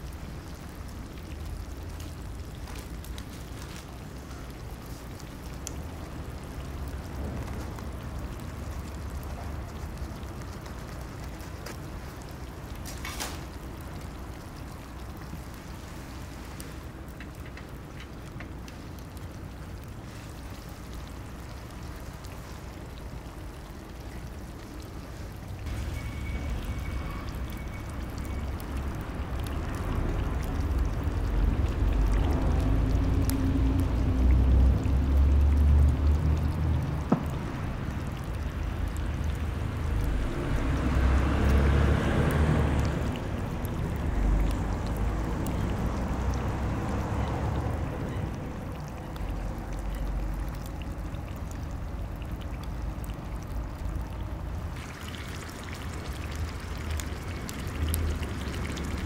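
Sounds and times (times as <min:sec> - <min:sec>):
olive oil sizzling and bubbling: 0:00.0 - 0:59.0.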